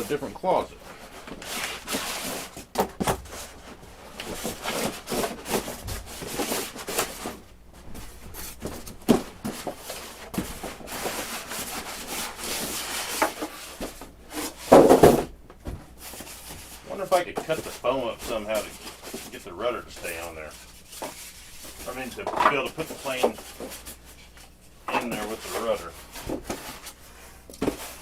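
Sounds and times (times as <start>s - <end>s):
hands rubbing and scraping foam parts: 0.0s - 15.0s, 15.9s - 28.0s.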